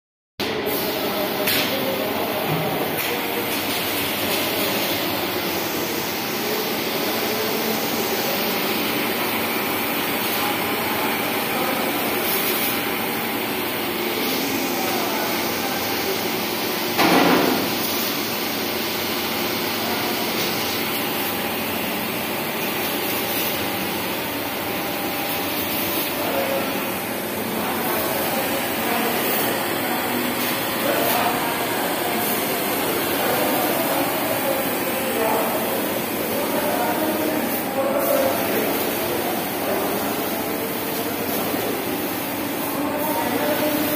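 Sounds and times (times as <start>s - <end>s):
welder arc hissing and humming: 0.4s - 43.9s
motor-driven welding carriage: 0.7s - 43.9s.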